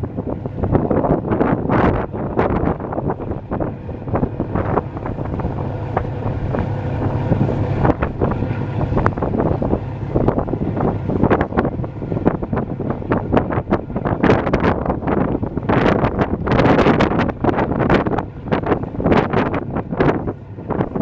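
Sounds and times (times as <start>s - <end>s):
boat engine humming: 0.0s - 21.0s
wind buffeting microphone: 0.0s - 21.0s.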